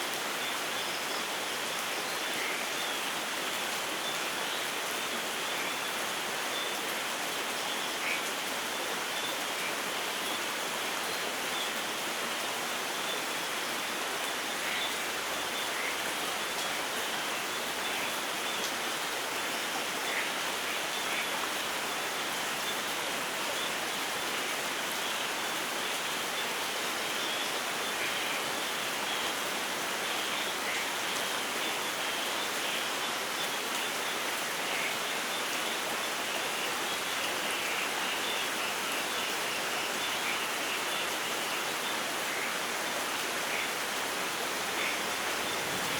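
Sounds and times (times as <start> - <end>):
light rain falling: 0.0 - 45.9.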